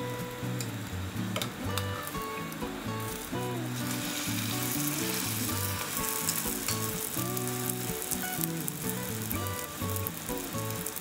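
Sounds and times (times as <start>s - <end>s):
background music: 0.0s - 11.0s
oil sizzling in a pan: 0.0s - 11.0s.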